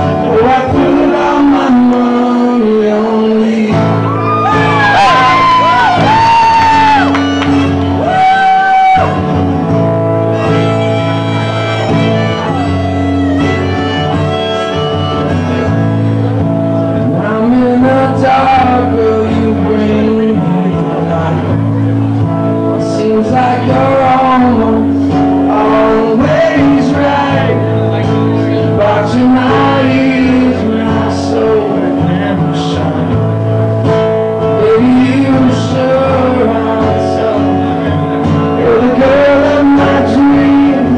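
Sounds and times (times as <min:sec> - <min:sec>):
man singing: 0:00.0 - 0:08.8, 0:16.8 - 0:40.9
acoustic guitar: 0:00.0 - 0:40.9.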